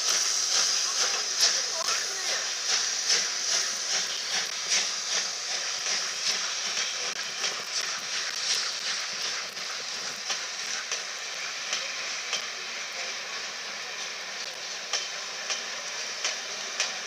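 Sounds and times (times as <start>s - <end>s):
train wheels clicking over rail joints: 0.0s - 13.0s, 13.6s - 17.0s
train rumble and hiss: 0.0s - 17.0s.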